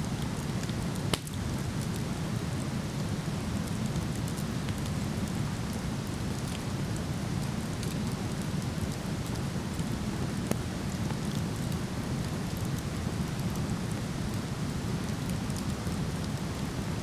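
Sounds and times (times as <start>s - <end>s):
wood fire crackling: 0.1s - 17.0s.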